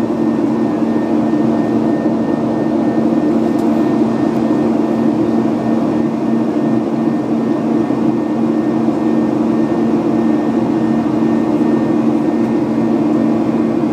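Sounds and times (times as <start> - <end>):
jet airliner cabin drone: 0.0 - 13.9.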